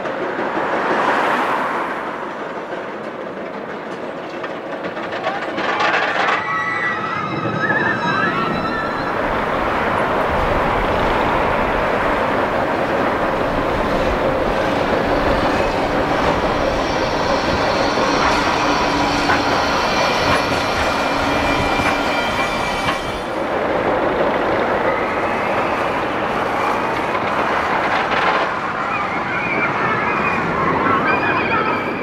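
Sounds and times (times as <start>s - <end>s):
tram rumbling: 0.0s - 32.0s
wheel-on-rail whine: 0.0s - 32.0s.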